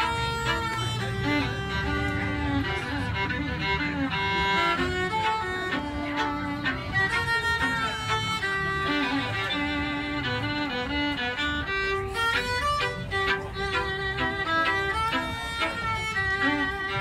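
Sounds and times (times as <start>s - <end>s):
two fiddles playing a duet: 0.0s - 17.0s.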